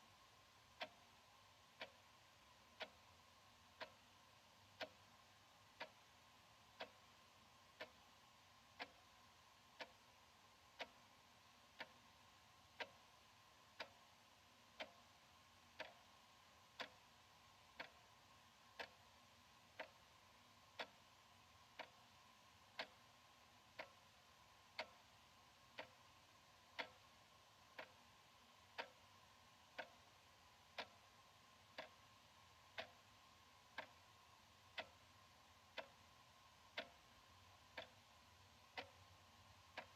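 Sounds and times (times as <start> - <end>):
faint steady hum: 0.0 - 39.9
wall clock ticking: 0.0 - 39.9.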